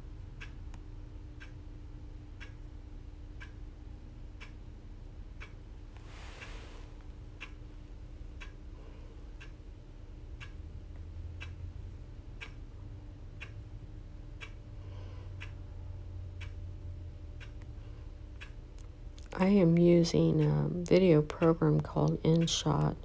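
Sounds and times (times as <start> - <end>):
faint low hum: 0.0 - 23.0
clock ticking: 0.2 - 6.5, 7.2 - 8.7, 9.3 - 23.0.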